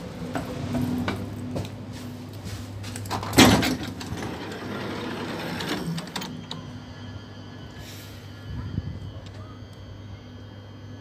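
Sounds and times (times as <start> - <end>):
train humming at platform: 0.0 - 11.0.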